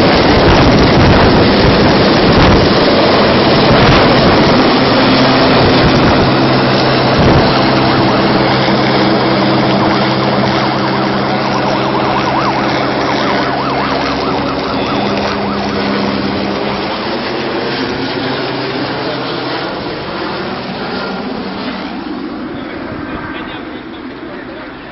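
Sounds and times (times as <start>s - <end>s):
helicopter rotor and turbine: 0.0s - 24.9s
faint warbling siren: 2.4s - 23.6s.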